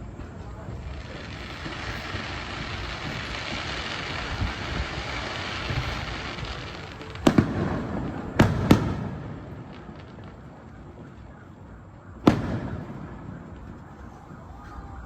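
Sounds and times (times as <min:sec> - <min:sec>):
fireworks bangs: 0:00.0 - 0:15.0
fireworks hissing and crackling: 0:00.0 - 0:15.0.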